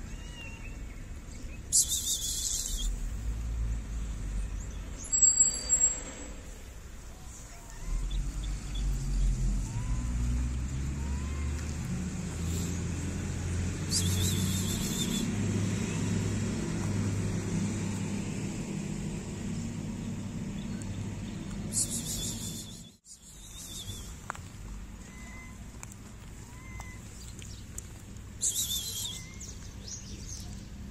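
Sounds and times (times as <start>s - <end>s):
engine rumbling: 0.0s - 30.9s.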